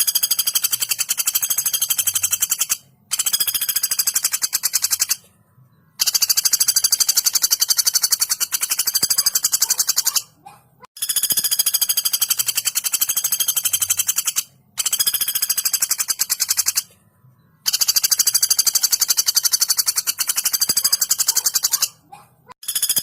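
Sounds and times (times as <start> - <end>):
woodpecker rattling call: 0.0 - 5.2, 6.0 - 16.9, 17.6 - 23.0.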